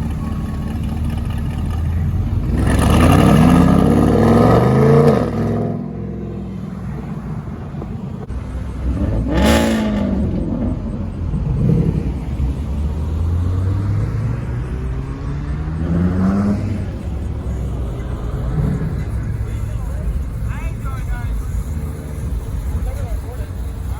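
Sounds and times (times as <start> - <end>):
car engine revving: 0.0 - 23.9
car engines rumbling: 0.0 - 23.9.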